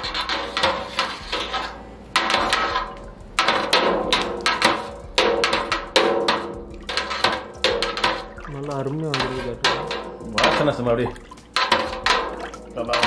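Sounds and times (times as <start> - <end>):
metal utensil scraping steel pot: 0.0 - 13.0.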